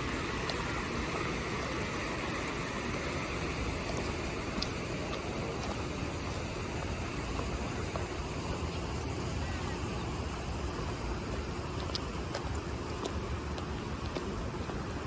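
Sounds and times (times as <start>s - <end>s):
flowing water: 0.0s - 15.0s
traffic: 0.0s - 15.0s.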